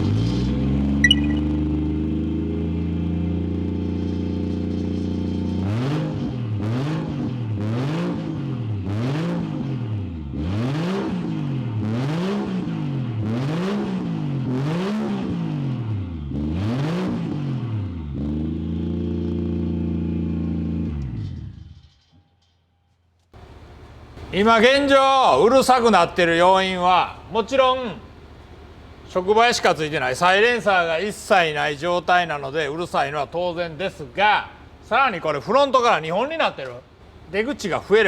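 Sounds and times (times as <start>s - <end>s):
car engine idling and revving: 0.0s - 22.5s, 23.2s - 24.8s, 26.0s - 35.2s, 36.2s - 38.0s.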